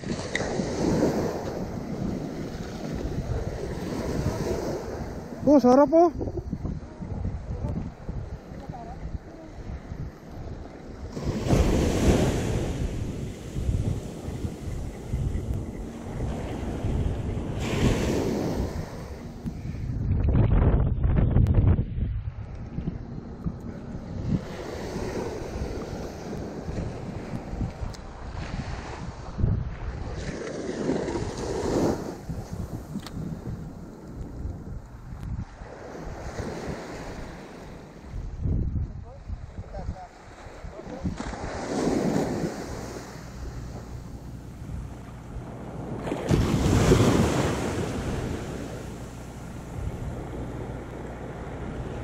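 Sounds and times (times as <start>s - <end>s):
surf washing up beach: 0.0s - 19.8s, 23.8s - 38.4s, 39.0s - 52.0s
wind buffeting microphone: 0.0s - 52.0s.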